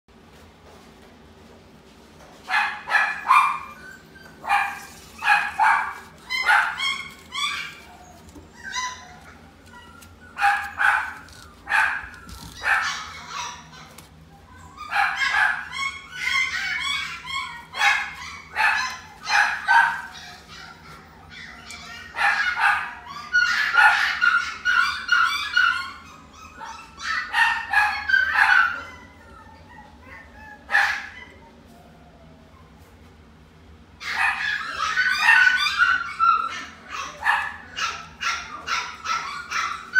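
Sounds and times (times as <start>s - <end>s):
puppy barking and yipping: 2.5s - 31.4s, 34.0s - 39.9s.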